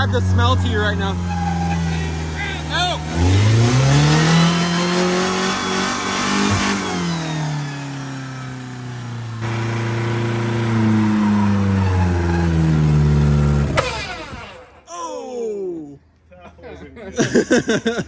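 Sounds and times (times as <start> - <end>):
pickup engine revving: 0.0 - 14.9.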